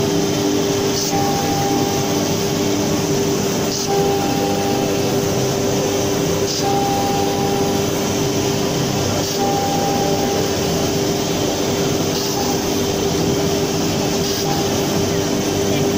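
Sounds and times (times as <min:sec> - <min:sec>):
higher machine tone: 0:00.0 - 0:15.9.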